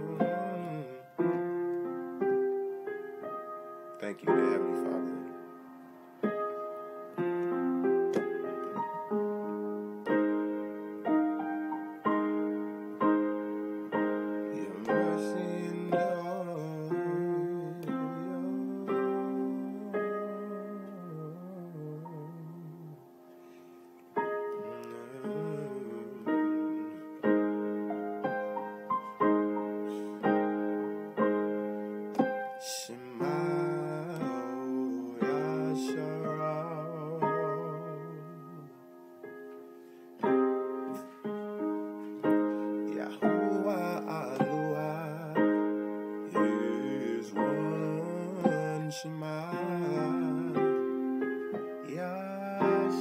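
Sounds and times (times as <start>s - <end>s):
slow piano keyboard music: 0.0s - 53.0s.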